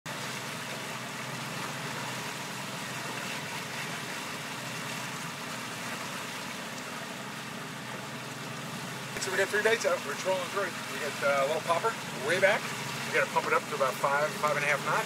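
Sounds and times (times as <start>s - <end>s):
hiss of wind and water: 0.1s - 15.0s
motorboat engine running: 0.1s - 15.0s.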